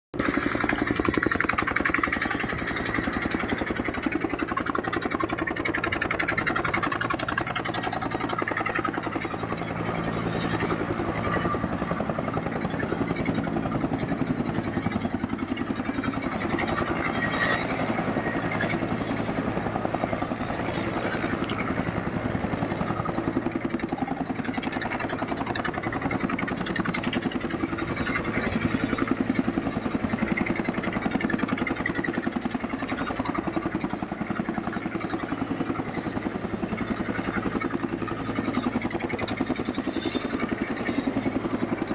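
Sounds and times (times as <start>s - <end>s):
helicopter rotor chopping: 0.2s - 41.9s.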